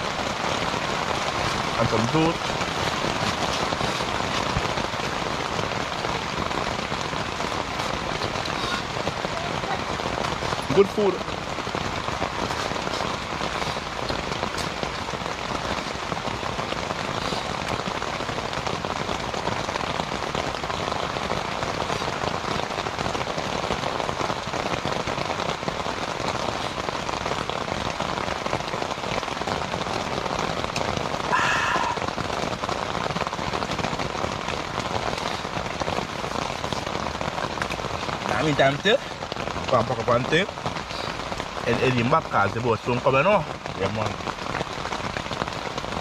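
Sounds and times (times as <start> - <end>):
rain on a tent: 0.0 - 46.0.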